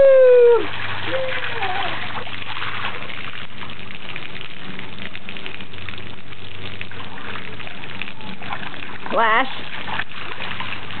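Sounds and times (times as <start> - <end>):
hose spraying water on concrete: 0.4 - 11.0.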